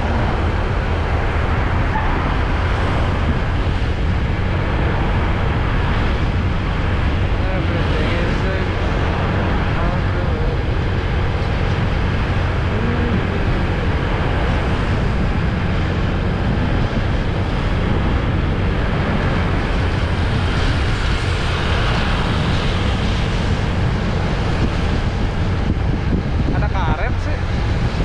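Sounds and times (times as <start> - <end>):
motorcycle engine rumble: 0.0 - 28.0
wind buffeting microphone: 0.0 - 28.0.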